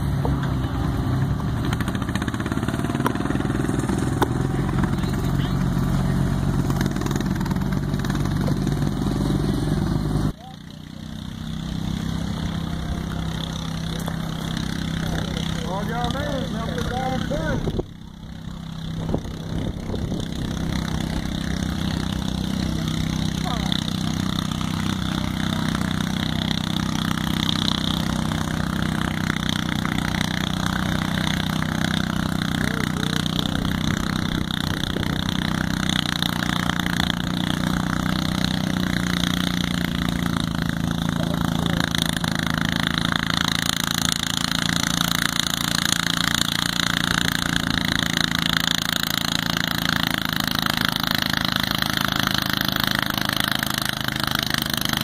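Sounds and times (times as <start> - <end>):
lawn tractor engine under load: 0.0 - 55.0.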